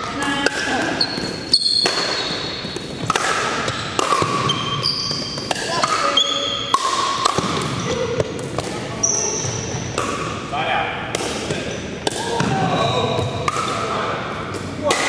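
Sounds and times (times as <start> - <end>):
sneakers squeaking on floor: 0.0 - 10.2, 11.5 - 13.4.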